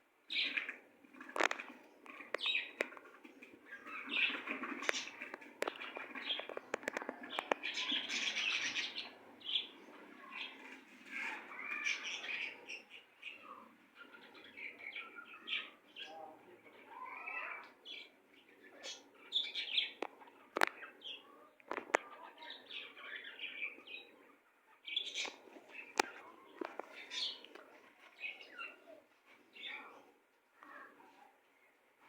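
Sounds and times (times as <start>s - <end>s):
small birds chirping: 0.2s - 31.8s.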